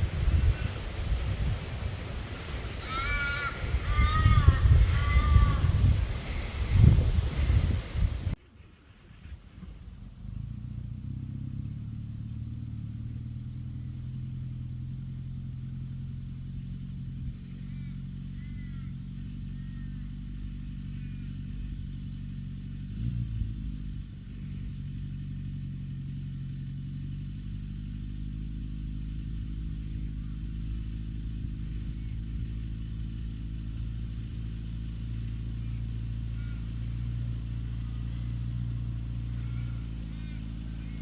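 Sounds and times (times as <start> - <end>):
car engine running: 0.0 - 8.4, 9.2 - 41.0.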